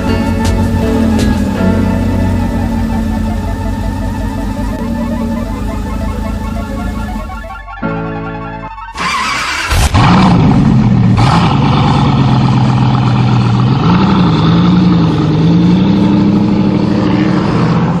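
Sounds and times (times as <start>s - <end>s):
car engine starting and revving: 0.0s - 18.0s.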